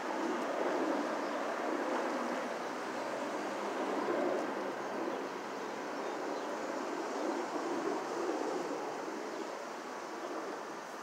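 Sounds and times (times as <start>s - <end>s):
traffic passing overhead: 0.0s - 11.0s.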